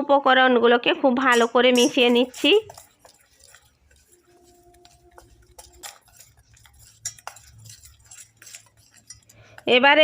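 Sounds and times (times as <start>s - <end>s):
utensil tapping against saucepan: 1.3s - 10.0s.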